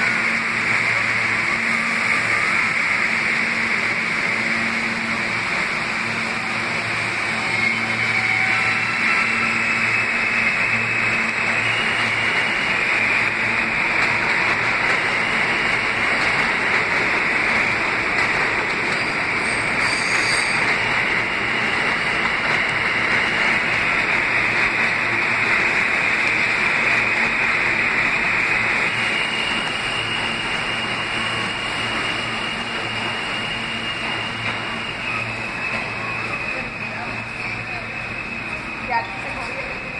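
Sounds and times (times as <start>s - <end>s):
subway trains rumbling past: 0.0s - 39.9s
wheels hissing on rail: 0.0s - 39.9s.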